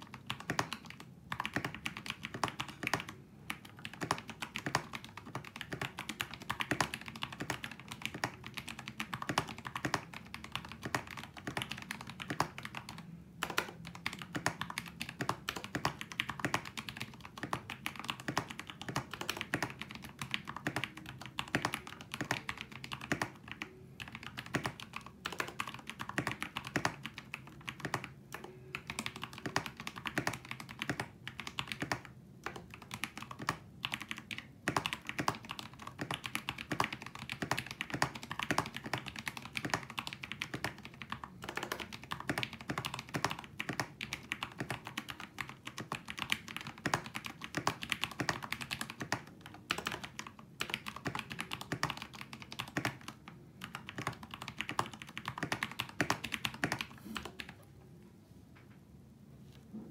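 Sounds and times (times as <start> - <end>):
fast typing on mechanical keyboard: 0.0 - 57.6.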